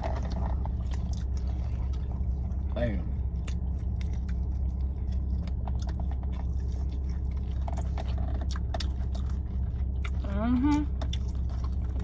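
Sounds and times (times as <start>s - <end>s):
chewing chicken wings: 0.0s - 2.7s, 3.3s - 12.0s
low hum: 0.0s - 12.0s.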